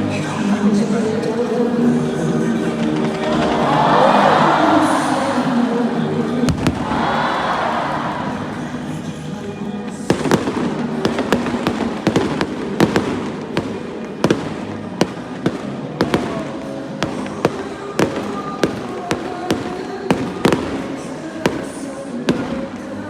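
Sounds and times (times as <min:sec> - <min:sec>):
background music: 0:00.0 - 0:23.0
fireworks bangs: 0:00.0 - 0:23.0.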